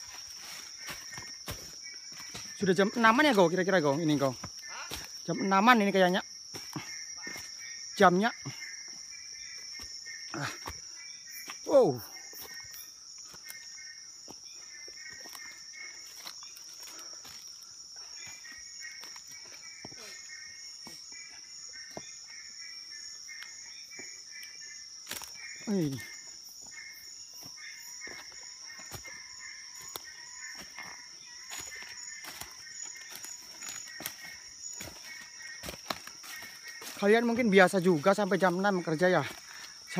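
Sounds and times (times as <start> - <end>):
insect high-pitched trill: 0.0 - 39.9
insects chirping: 0.0 - 39.9.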